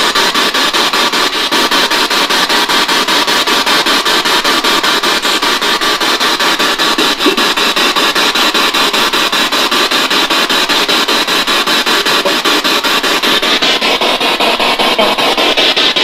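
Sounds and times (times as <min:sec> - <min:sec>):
pulsing radio static: 0:00.0 - 0:16.0.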